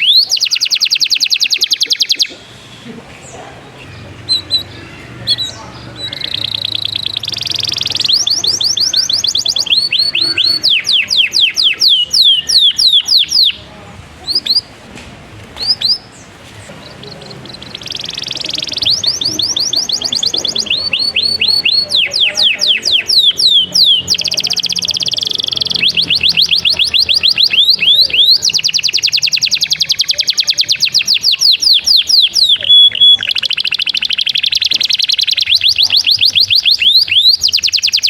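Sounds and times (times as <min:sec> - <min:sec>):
canary singing trills: 0:00.0 - 0:14.9, 0:15.6 - 0:38.0.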